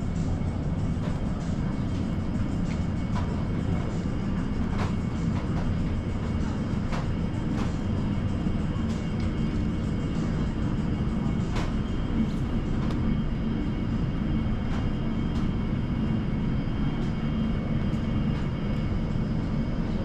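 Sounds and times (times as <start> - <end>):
store ambience low rumble: 0.0 - 20.0.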